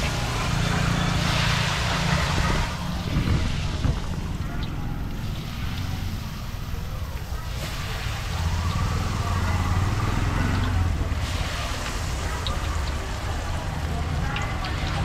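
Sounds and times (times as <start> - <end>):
distant voices: 0.0 - 15.0
engine running close by: 0.0 - 15.0.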